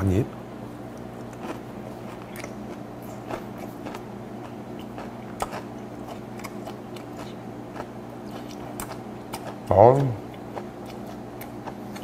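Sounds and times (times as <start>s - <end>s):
steady low hum: 0.0s - 12.0s
close-up chewing: 1.2s - 12.0s.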